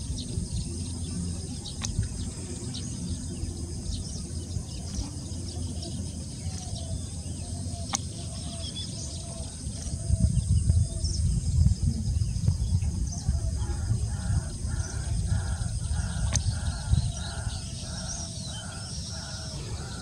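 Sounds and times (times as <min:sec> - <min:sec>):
faint high chirps of small birds: 0:00.0 - 0:20.0
low rumble on microphone: 0:00.0 - 0:20.0.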